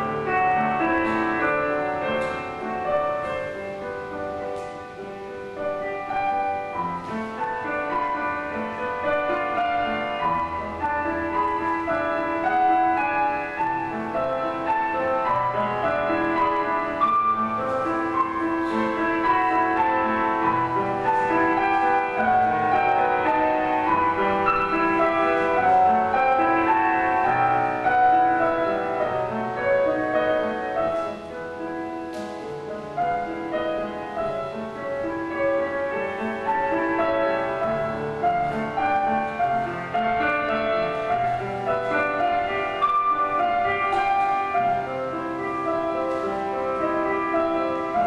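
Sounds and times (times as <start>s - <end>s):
classical piano music: 0.0s - 48.0s.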